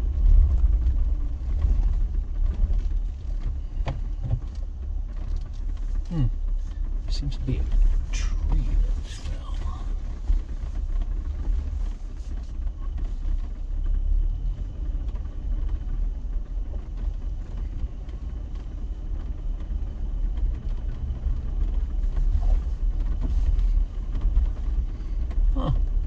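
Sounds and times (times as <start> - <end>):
off-road vehicle engine rumble: 0.0 - 26.0.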